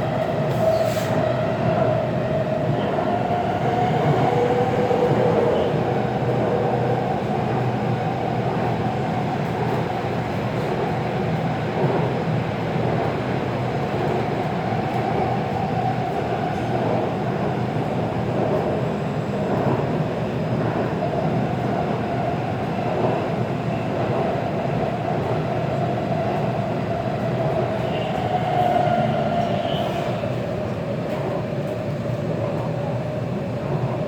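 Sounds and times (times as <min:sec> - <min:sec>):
subway train running: 0:00.0 - 0:34.0.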